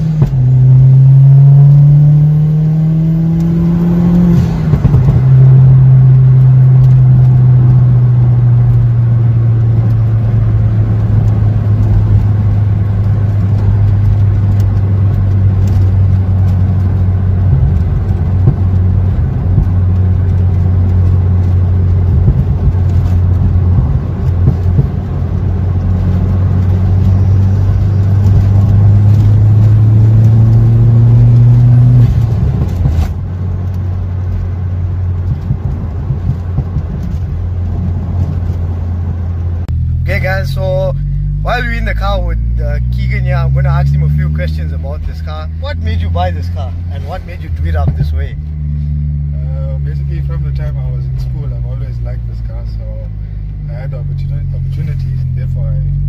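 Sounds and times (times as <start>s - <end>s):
car engine while driving: 0.0s - 56.0s.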